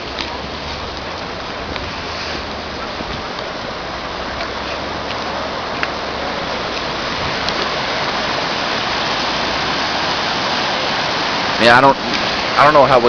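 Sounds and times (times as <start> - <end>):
floodwater roaring: 0.0 - 13.0.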